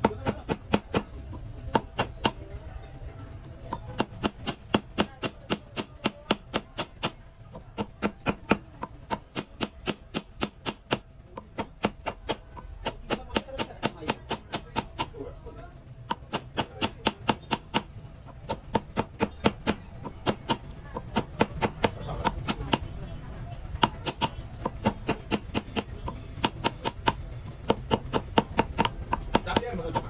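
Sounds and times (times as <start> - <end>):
small hammer tapping on metal: 0.0 - 2.5, 3.7 - 15.2, 16.0 - 23.0, 23.7 - 30.0.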